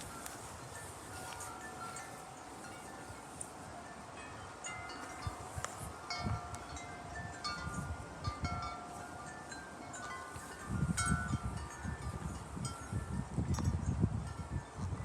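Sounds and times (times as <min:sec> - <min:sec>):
metal wind chimes ringing: 0:00.0 - 0:15.0
wind rumble on microphone: 0:00.0 - 0:15.0.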